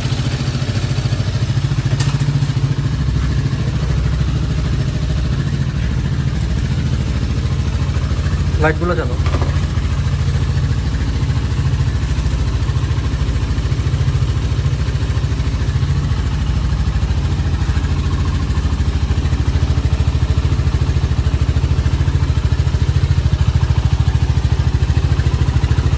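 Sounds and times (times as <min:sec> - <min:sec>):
atv engine idling: 0:00.0 - 0:25.9.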